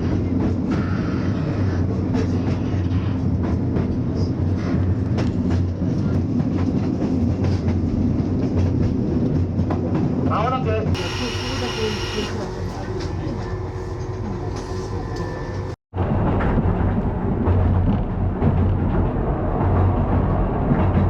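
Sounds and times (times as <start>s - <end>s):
train running drone: 0.0s - 10.0s, 11.0s - 21.0s.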